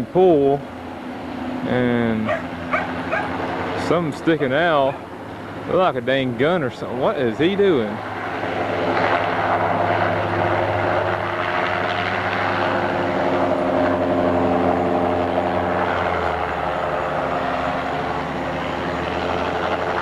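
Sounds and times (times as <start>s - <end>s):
helicopter flying overhead: 0.0s - 20.0s.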